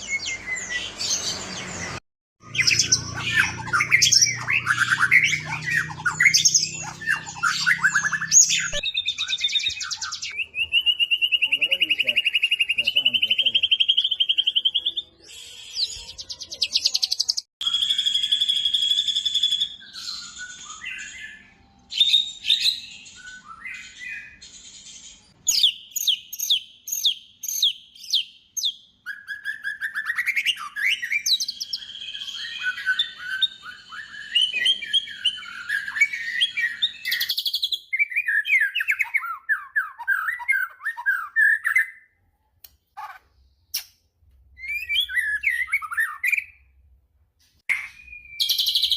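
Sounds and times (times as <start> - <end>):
songbird singing varied song: 0.0 - 24.4, 25.3 - 42.0, 47.7 - 48.9.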